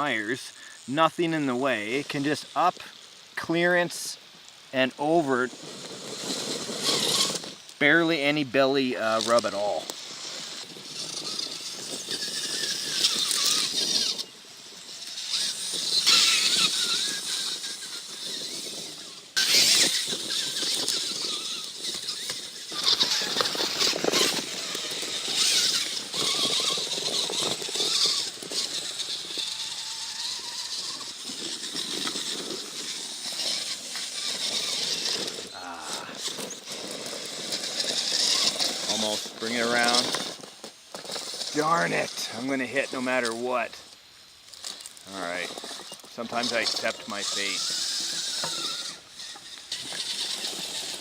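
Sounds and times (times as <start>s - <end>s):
electric motors and gears whining: 0.0s - 51.0s.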